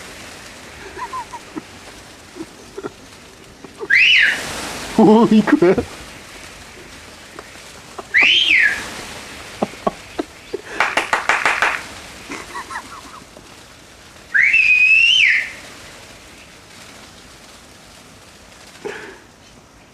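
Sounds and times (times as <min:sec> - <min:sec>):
rapid clicking chatter: 0:00.0 - 0:19.4.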